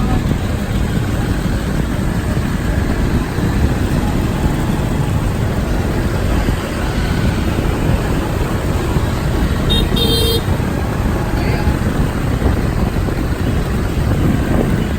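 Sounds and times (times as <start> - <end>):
motorcycle engine rumble: 0.0 - 14.9
street traffic: 0.0 - 14.9.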